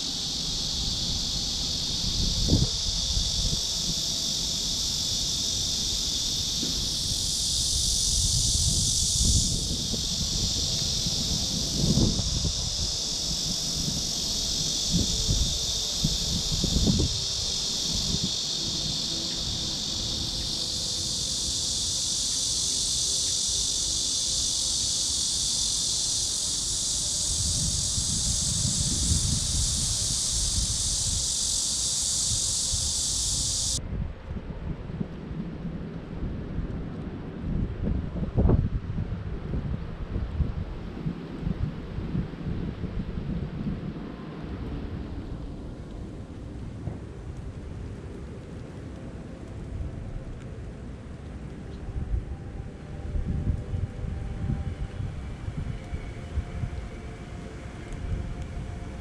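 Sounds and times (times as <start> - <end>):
high-pitched insect chorus: 0.0 - 33.9, 34.6 - 59.0
wind rumbling on microphone: 0.0 - 59.0.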